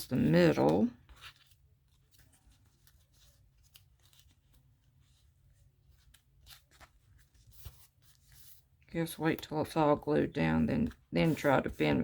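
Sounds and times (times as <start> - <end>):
stiff paper rustling: 0.0 - 9.7, 10.8 - 12.0.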